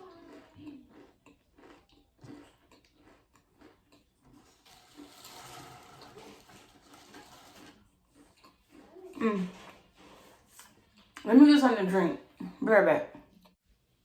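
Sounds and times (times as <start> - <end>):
chewing crisps: 0.0 - 11.2.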